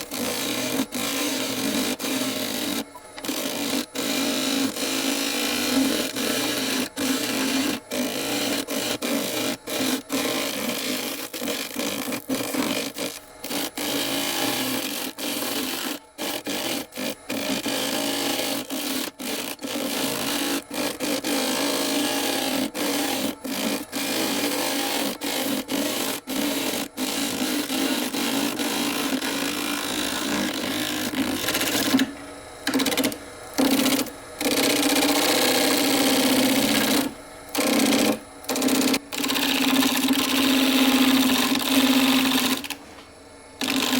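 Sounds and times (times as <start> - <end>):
lathe motor hum: 0.0 - 43.9
tool scraping spinning wood: 0.0 - 43.9.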